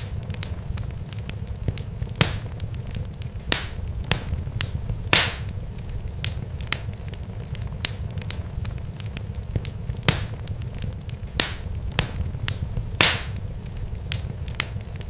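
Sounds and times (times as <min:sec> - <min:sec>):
low rumble: 0:00.0 - 0:15.0
sharp crackles and pops: 0:00.0 - 0:15.0.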